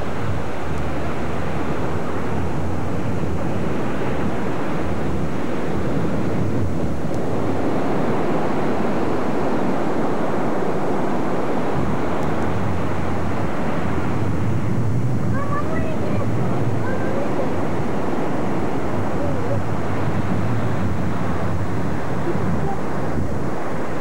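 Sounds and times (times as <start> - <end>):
ocean surf rushing: 0.0 - 24.0
wind buffeting microphone: 0.0 - 24.0.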